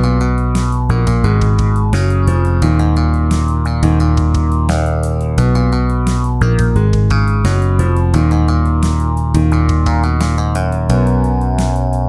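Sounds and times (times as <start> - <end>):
instrumental hip-hop beat: 0.0 - 12.0.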